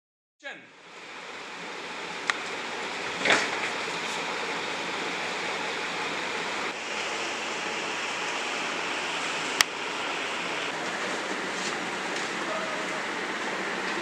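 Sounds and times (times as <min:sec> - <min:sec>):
steady rushing noise: 0:00.9 - 0:14.0.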